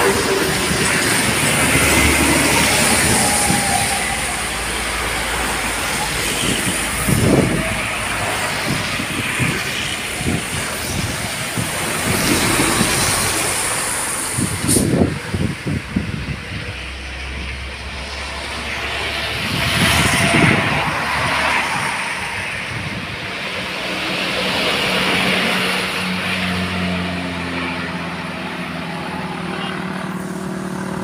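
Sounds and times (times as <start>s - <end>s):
motorcycles passing: 0.0s - 31.0s
trucks passing: 0.0s - 31.0s
tyres hissing on wet asphalt: 0.0s - 31.0s.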